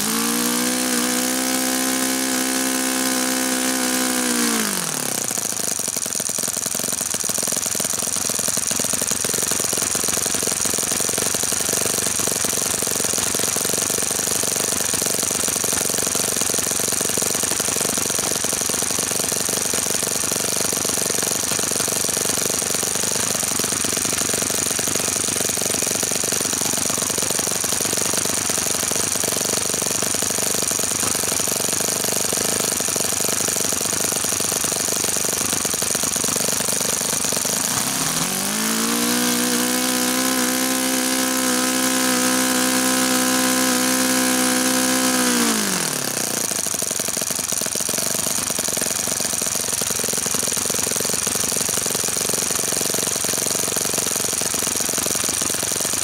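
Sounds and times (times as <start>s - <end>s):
model engine idling and revving: 0.0s - 56.0s.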